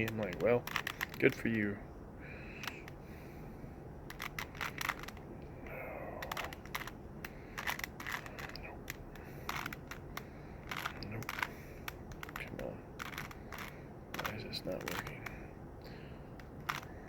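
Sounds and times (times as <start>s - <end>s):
plastic puzzle cube clicking: 0.0s - 1.7s, 2.6s - 3.0s, 4.1s - 5.3s, 6.1s - 17.0s.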